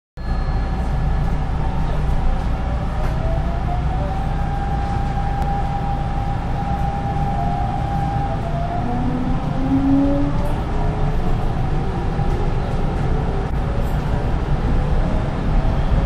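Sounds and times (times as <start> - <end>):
train wheels rumbling: 0.4 - 16.0.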